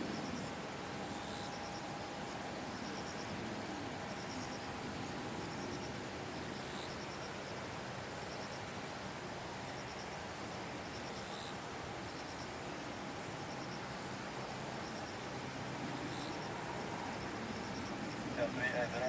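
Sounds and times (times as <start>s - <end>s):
faint background hiss: 0.0s - 19.0s
insects chirping: 0.0s - 19.0s.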